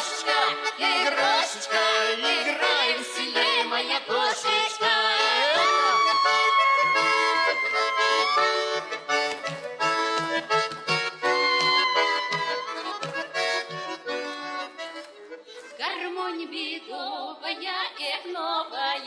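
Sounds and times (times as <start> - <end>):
accordion folk dance tune: 0.0 - 19.0.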